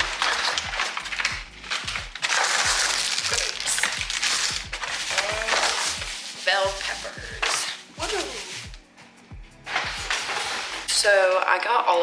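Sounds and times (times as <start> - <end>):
plastic packaging crinkling: 0.0 - 8.8, 9.6 - 12.0
background music with steady beat: 0.0 - 12.0.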